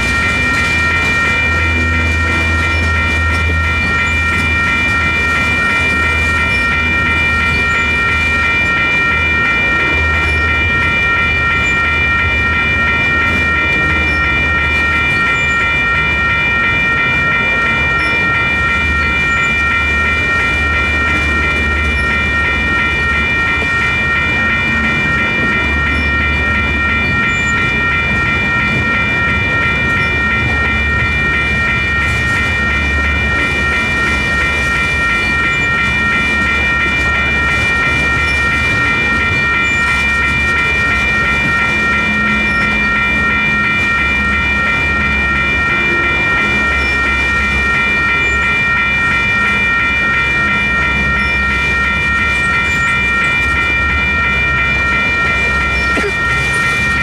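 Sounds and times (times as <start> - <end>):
electronic crossing bells ringing: 0.0 - 57.0
freight train wheels rumbling: 0.0 - 57.0.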